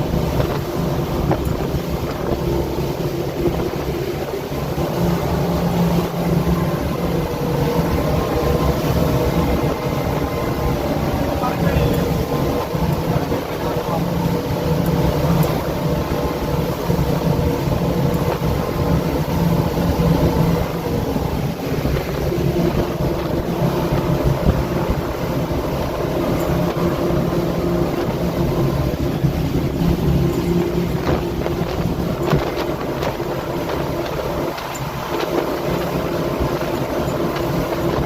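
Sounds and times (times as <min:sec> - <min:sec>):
boat engine droning: 0:00.0 - 0:38.0.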